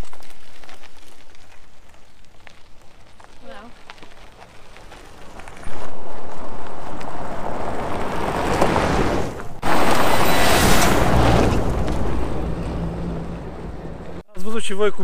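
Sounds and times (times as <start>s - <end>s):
vehicles passing on gravel: 0.0s - 14.2s.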